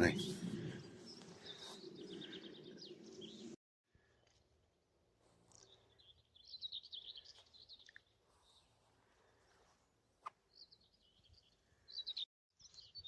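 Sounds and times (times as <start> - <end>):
faint songbird twittering: 0.0 - 3.6, 5.5 - 13.0.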